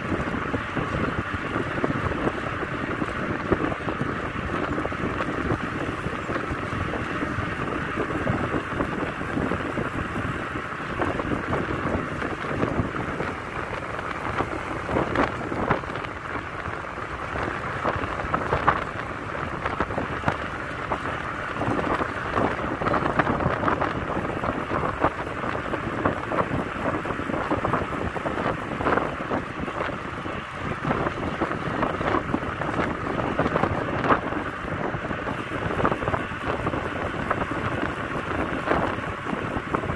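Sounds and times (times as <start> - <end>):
bicycle tyres rolling on asphalt: 0.0 - 39.9
wind buffeting microphone: 0.0 - 39.9.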